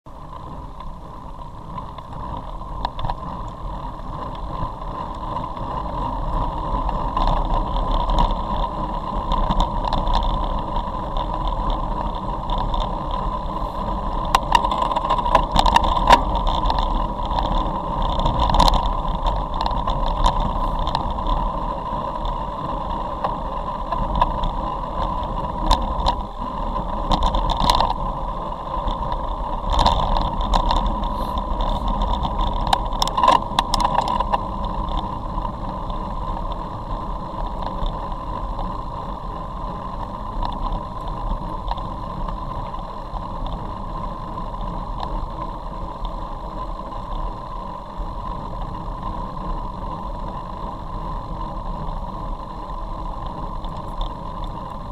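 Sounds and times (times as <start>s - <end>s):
tyres on wet road: 0.1s - 54.9s
wind rushing over microphone: 0.1s - 54.9s.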